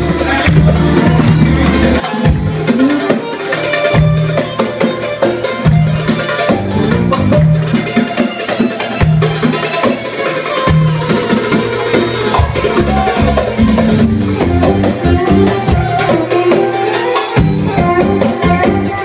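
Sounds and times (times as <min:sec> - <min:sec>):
arabic dance music with drums: 0:00.0 - 0:19.0.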